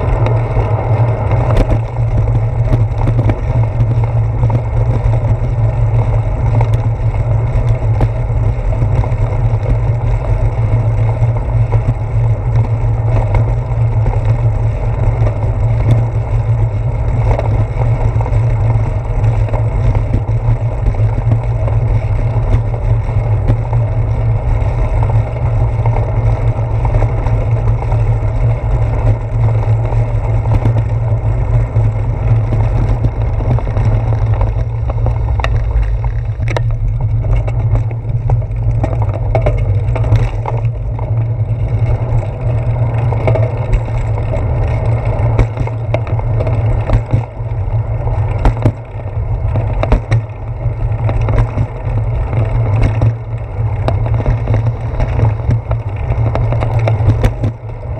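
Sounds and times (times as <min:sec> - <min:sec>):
bicycle rolling over bricks: 0:00.0 - 0:57.9
wind rumble: 0:00.0 - 0:57.9.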